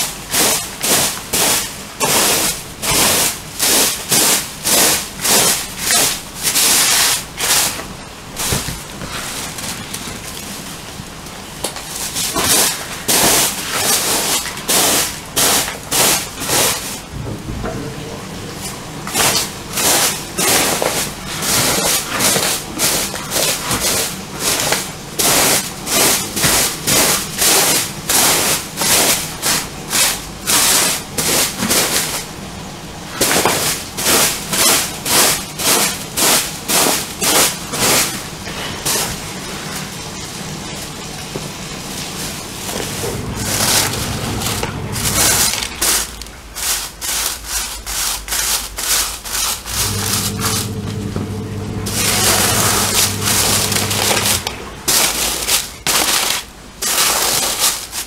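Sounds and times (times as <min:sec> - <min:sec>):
broom sweeping floor: 0:00.0 - 0:32.4, 0:33.0 - 0:40.0, 0:40.8 - 0:58.0.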